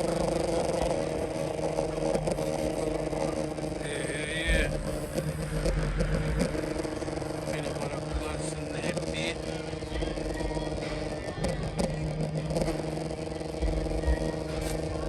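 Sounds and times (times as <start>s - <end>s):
car engine idling: 0.0s - 15.0s
higher-pitched wavering sound: 0.0s - 15.0s.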